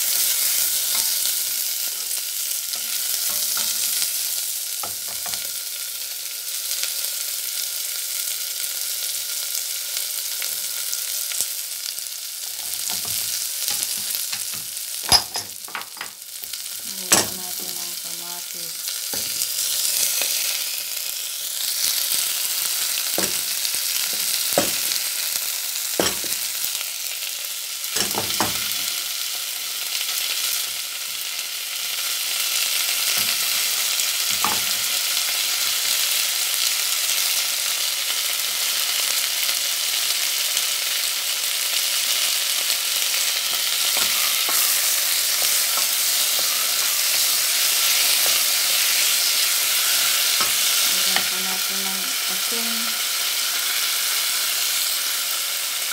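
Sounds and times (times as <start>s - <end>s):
onions sizzling in oil: 0.0s - 55.9s.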